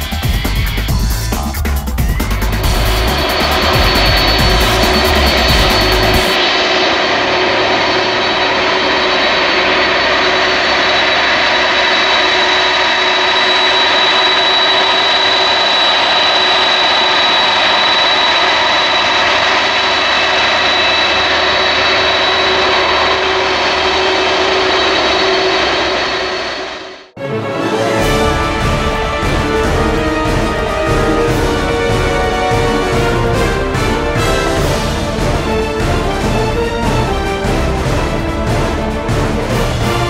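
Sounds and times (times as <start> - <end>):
jet engines roaring and whining: 0.0 - 40.0.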